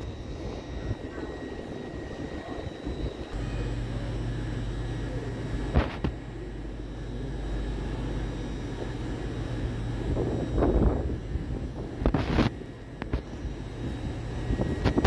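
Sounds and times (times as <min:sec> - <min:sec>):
train engine droning: 0:00.0 - 0:15.0.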